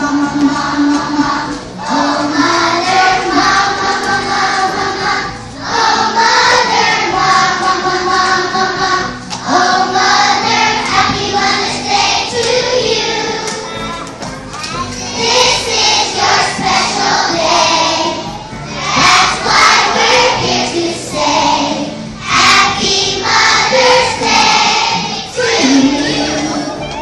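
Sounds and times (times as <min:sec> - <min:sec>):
children singing together: 0:00.0 - 0:27.0.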